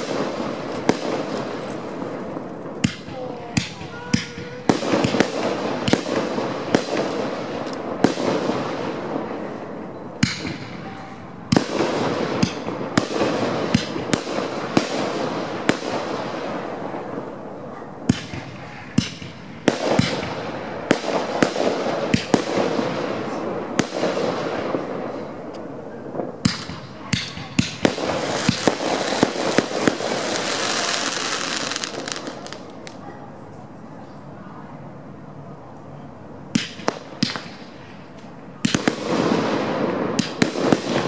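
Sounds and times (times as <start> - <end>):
fireworks bursting: 0.0 - 33.6, 36.4 - 41.0
continuous wash of noise: 0.0 - 41.0.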